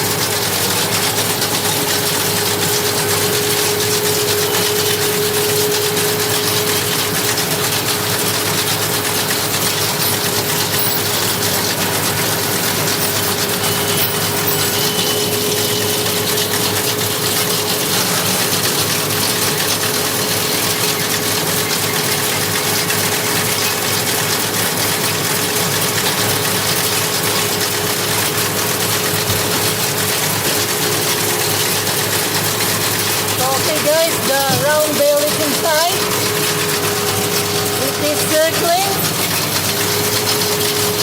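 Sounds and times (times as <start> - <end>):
baler mechanical clatter: 0.0 - 41.0
tractor engine hum: 0.0 - 41.0.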